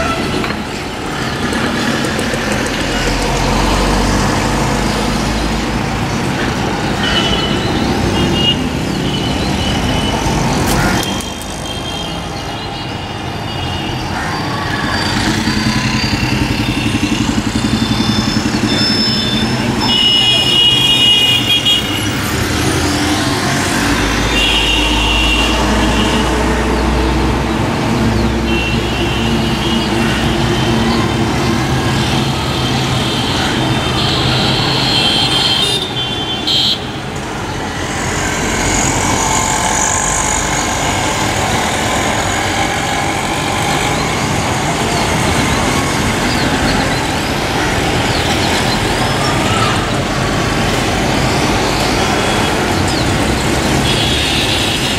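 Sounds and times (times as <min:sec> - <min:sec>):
road traffic noise: 0:00.0 - 0:54.9.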